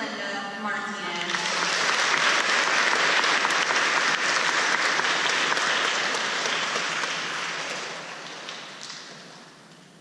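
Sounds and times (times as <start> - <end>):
audience applauding: 1.2 - 9.3.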